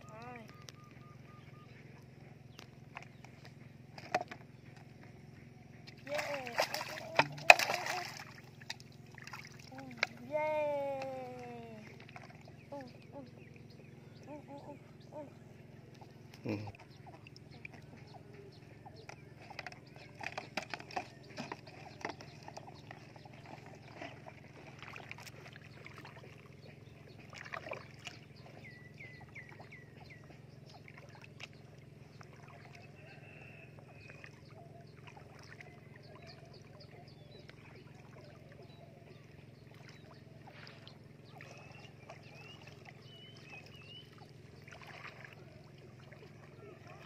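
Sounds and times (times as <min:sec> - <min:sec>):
water sloshing: 0:00.0 - 0:47.0.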